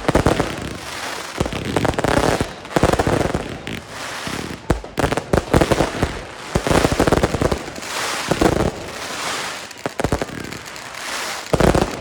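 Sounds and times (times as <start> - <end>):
firework bangs: 0.0 - 12.0
firework crackling hiss: 0.0 - 12.0.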